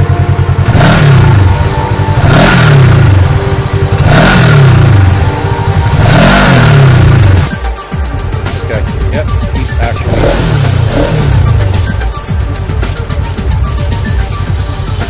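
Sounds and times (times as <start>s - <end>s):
engine revving: 0.0s - 15.0s
fast steady pulse: 0.0s - 15.0s
music with held notes: 0.0s - 15.0s.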